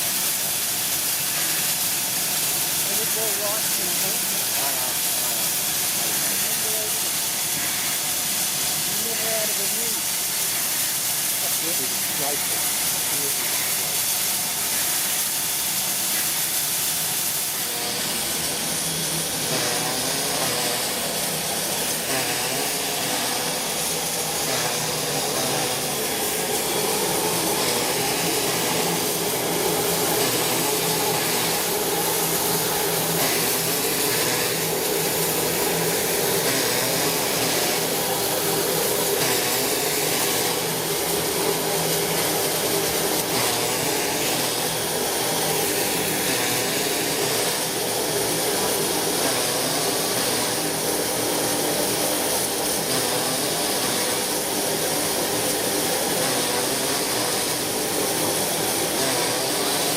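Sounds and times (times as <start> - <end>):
steam train hiss and rumble: 0.0 - 59.9.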